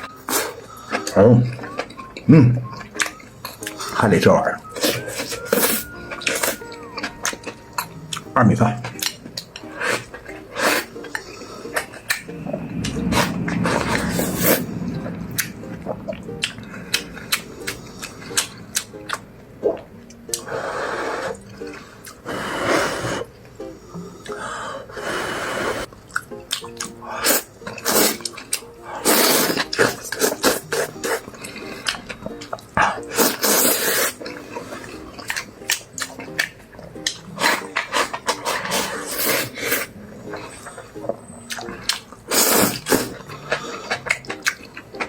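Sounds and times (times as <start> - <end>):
wet chewing and slurping: 0.0 - 23.3, 25.7 - 45.0
background music: 0.0 - 45.0.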